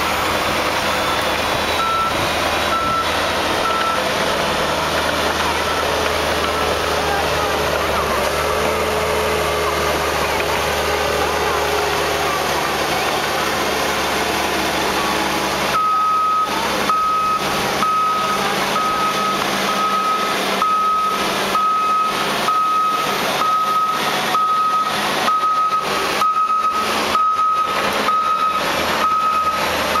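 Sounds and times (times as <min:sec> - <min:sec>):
tractor engines running: 0:00.0 - 0:30.0
reversing alarm beeping: 0:01.0 - 0:10.1, 0:14.3 - 0:30.0.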